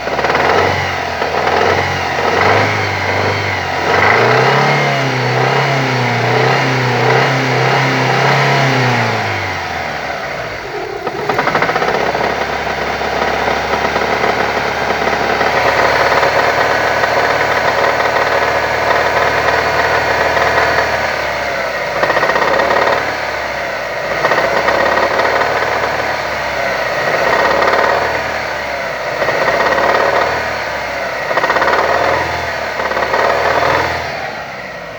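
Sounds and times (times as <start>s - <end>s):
car engine revving with a knock: 0.0s - 34.3s.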